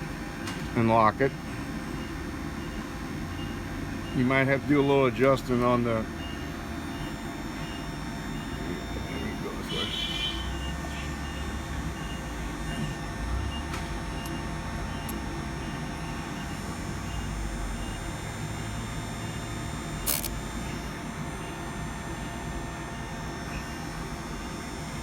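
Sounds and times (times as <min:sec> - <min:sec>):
grinding-wheel motor humming: 0:01.2 - 0:25.0.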